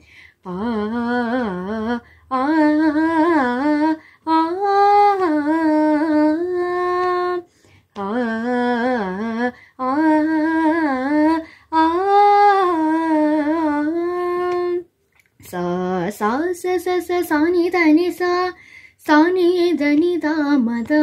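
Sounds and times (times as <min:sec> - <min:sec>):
girl singing wordlessly: 0:00.4 - 0:21.0.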